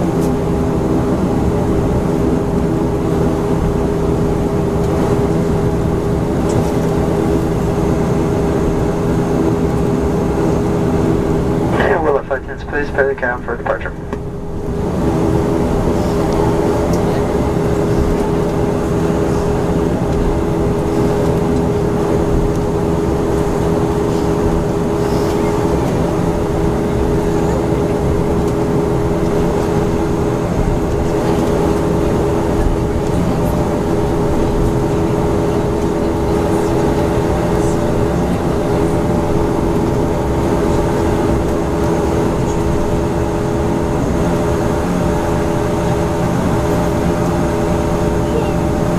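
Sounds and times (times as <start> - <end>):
turboprop engines droning in cabin: 0.0 - 48.9.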